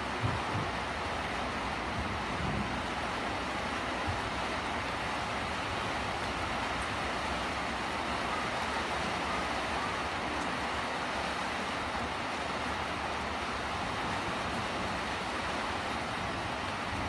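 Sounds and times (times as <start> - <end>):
rain and wind hissing: 0.0 - 17.0.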